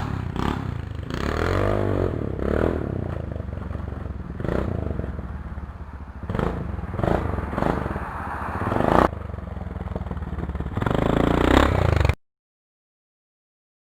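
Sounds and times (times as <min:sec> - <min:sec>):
engine revving: 0:00.0 - 0:12.2.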